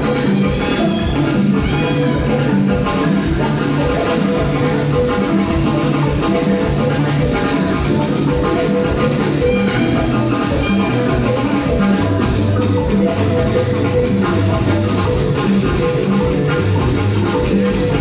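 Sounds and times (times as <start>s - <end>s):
drum kit beat: 0.0s - 18.0s
live band music: 0.0s - 18.0s.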